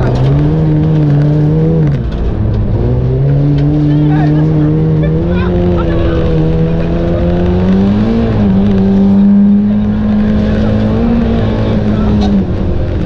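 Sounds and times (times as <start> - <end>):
rally car engine pulling hard: 0.0 - 13.0
road noise: 0.0 - 13.0.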